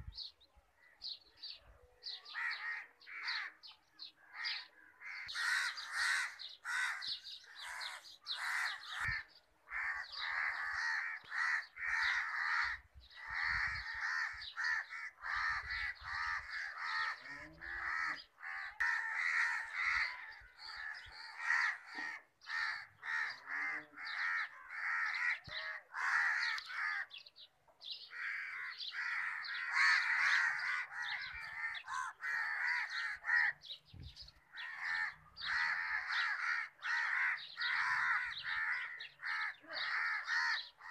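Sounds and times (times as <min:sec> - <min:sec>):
crows cawing: 0:02.2 - 0:33.7, 0:34.4 - 0:40.9.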